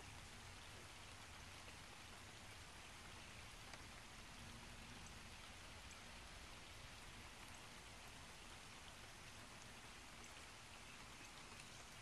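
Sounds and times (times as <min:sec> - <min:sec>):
rain falling on pond: 0:00.0 - 0:12.0
raindrop ticks: 0:00.0 - 0:12.0.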